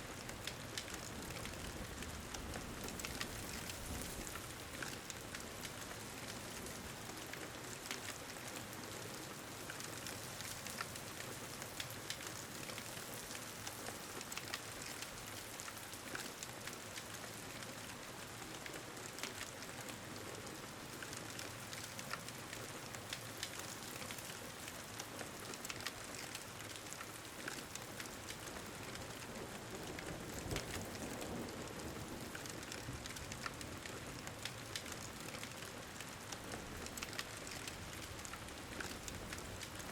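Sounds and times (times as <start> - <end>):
steady rain: 0.0 - 39.9
wood fire crackling: 0.2 - 39.9.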